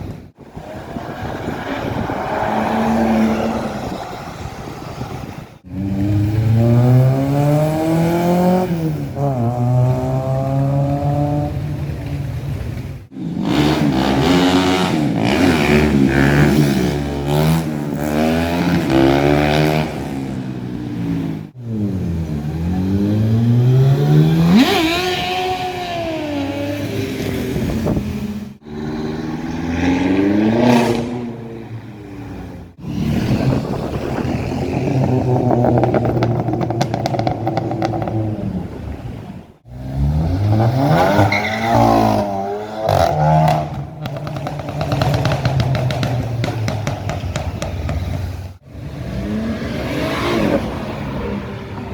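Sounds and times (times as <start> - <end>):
car engines revving past: 0.1 - 51.9.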